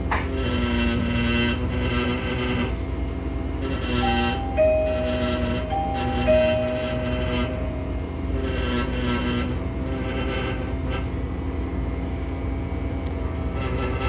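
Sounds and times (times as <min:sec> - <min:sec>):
air scribe buzzing: 0:00.0 - 0:14.0
low drone: 0:00.0 - 0:14.0.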